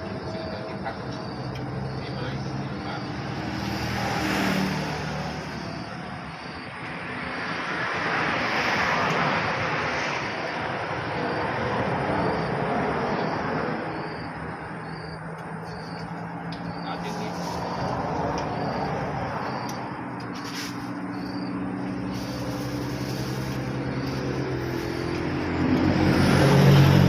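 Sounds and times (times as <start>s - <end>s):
traffic going by: 0.0s - 27.0s.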